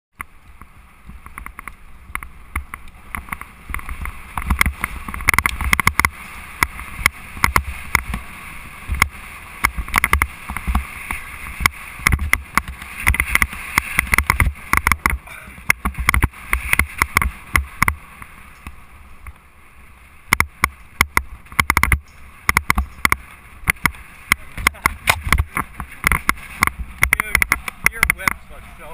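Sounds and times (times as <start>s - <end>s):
wind rumble: 0.1s - 28.9s
bike knocking and rattling: 0.2s - 19.4s, 20.2s - 28.9s.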